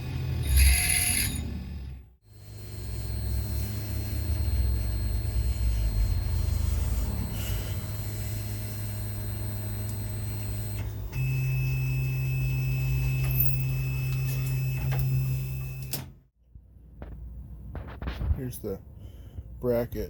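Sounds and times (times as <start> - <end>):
electric motor humming: 0.0 - 16.1
another motor running: 0.0 - 16.2.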